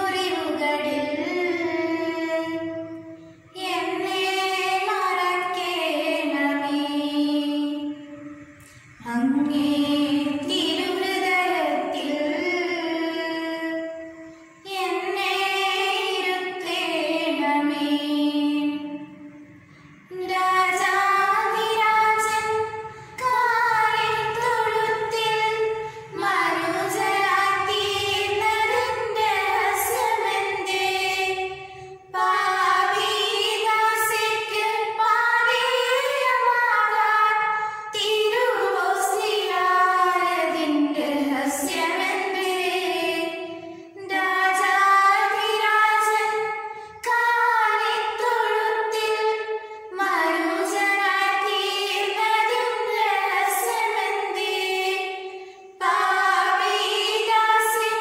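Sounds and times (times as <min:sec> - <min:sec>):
girls singing a hymn: 0:00.0 - 0:58.0.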